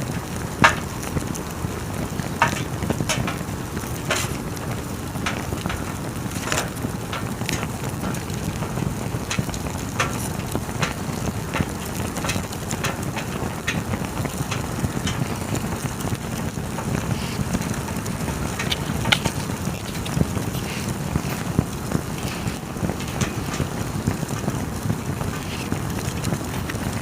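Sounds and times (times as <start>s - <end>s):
campfire pops and snaps: 0.0s - 27.0s
low rush of burning fire: 0.0s - 27.0s.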